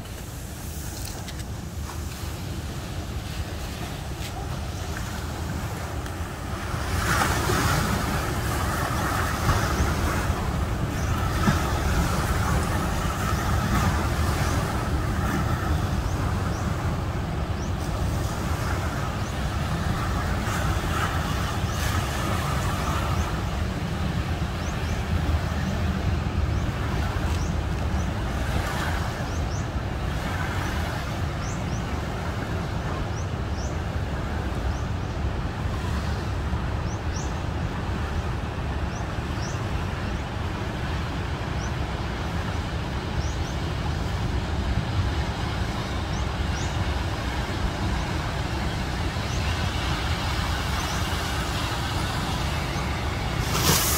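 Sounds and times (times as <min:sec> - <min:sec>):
heavy ocean surf breaking: 0:00.0 - 0:53.9.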